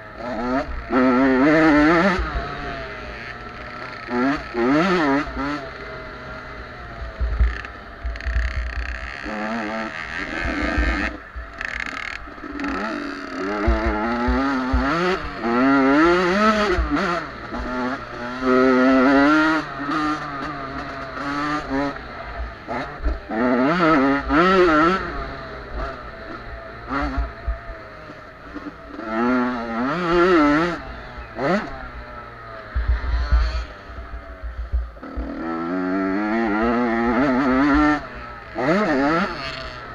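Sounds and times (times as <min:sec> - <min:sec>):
two-stroke dirt bike engines revving: 0:00.0 - 0:39.9.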